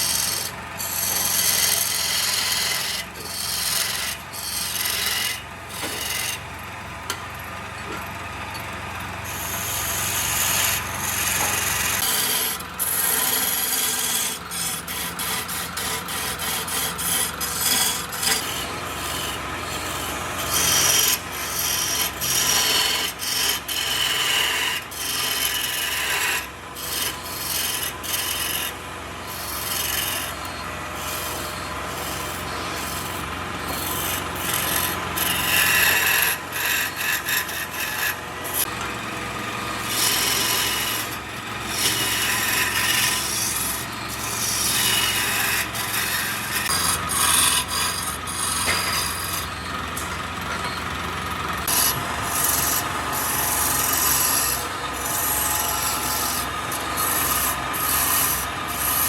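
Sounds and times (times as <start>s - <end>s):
lathe low hum: 0.0s - 59.0s
tool scraping spinning wood: 0.0s - 59.0s.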